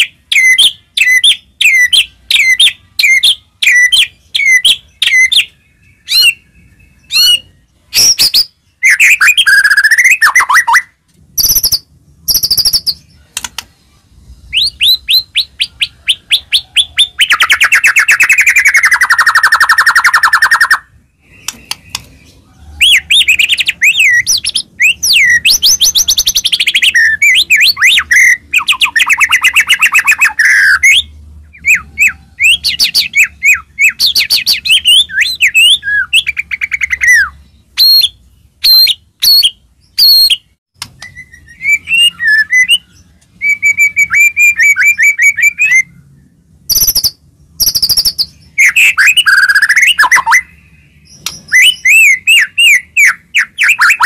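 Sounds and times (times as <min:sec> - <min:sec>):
songbird trills and whistles: 0:00.0 - 0:13.6, 0:14.4 - 0:46.1, 0:46.7 - 0:54.0.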